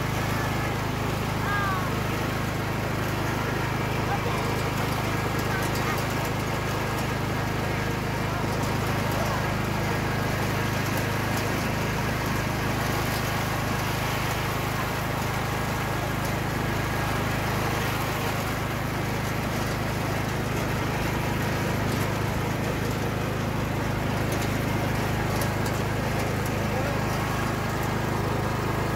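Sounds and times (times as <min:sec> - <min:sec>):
riding lawn mower engine running: 0:00.0 - 0:28.9.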